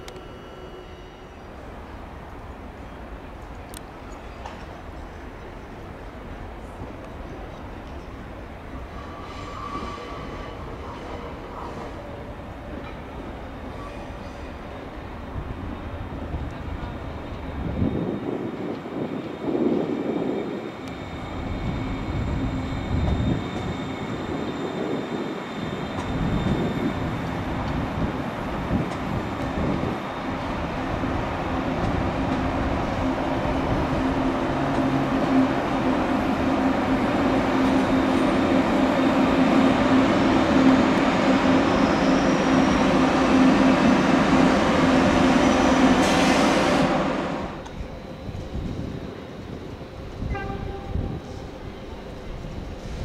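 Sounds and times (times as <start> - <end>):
train running through station: 0.0 - 53.0.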